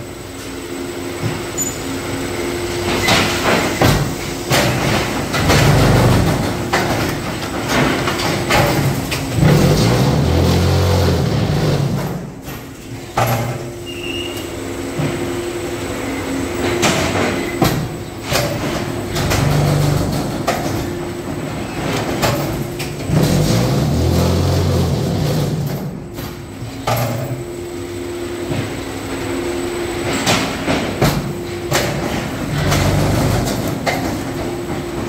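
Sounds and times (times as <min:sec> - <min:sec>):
low vibration hum of machine: 0:00.0 - 0:35.0.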